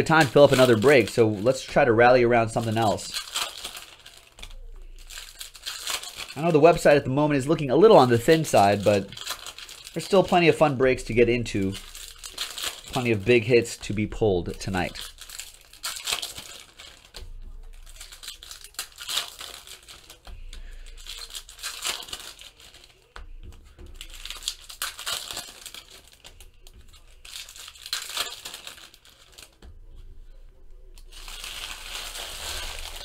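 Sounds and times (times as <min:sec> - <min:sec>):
foil wrappers tearing and crinkling: 0:00.0 - 0:29.6, 0:31.0 - 0:33.0.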